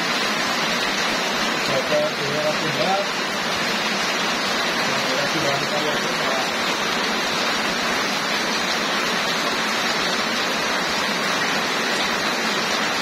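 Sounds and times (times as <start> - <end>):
heavy rain on street: 0.0 - 13.0.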